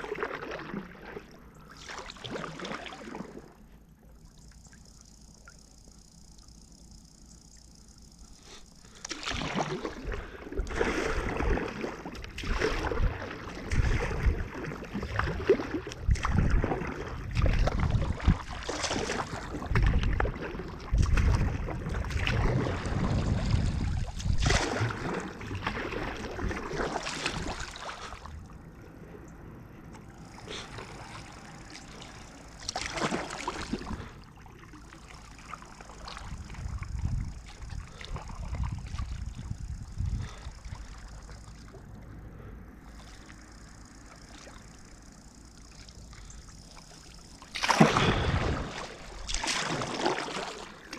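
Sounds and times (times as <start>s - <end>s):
water sloshing around kayak: 0.0s - 29.1s, 29.8s - 50.9s.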